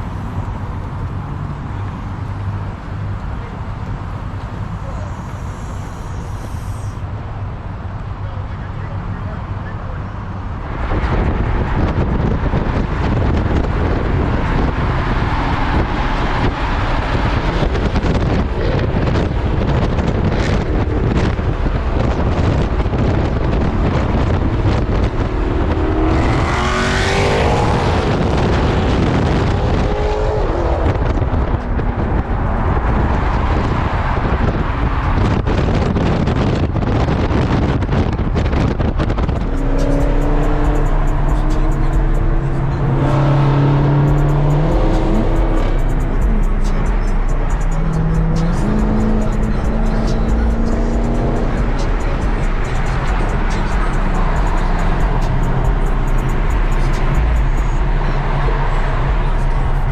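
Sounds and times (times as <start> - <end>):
car engines rumbling: 0.0 - 59.9.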